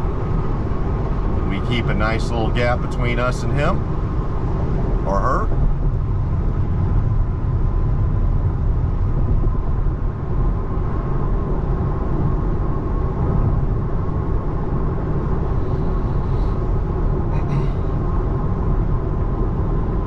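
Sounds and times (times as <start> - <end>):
road and tyre noise: 0.0 - 20.0.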